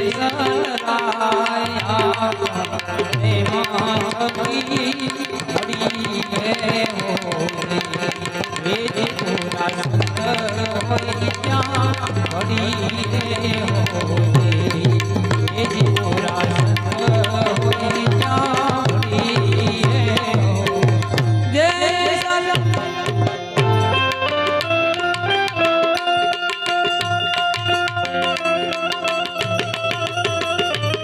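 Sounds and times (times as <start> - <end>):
harmonium melody: 0.0 - 31.0
tabla: 0.0 - 31.0.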